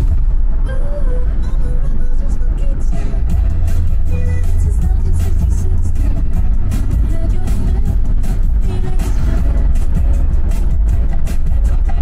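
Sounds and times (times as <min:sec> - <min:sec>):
car engine and tyre rumble: 0:00.0 - 0:12.0
music playing: 0:00.0 - 0:12.0.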